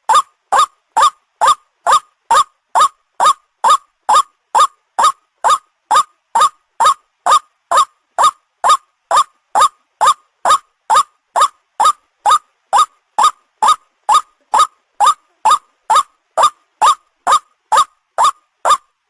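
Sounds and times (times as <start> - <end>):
waterhen calling: 0.0 - 18.9.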